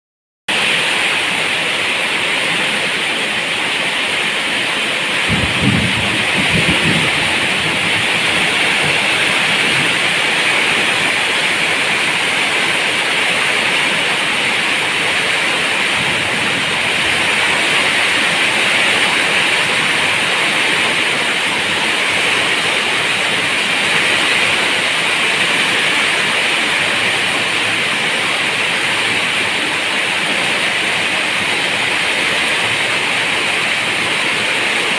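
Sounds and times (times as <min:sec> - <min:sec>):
heavy rain falling: 0:00.5 - 0:34.9.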